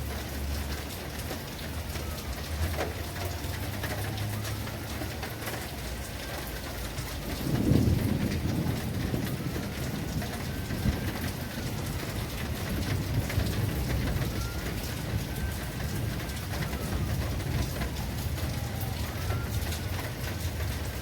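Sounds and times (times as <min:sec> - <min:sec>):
heavy rain falling: 0:00.0 - 0:21.0
low rumble of thunder: 0:00.1 - 0:21.0.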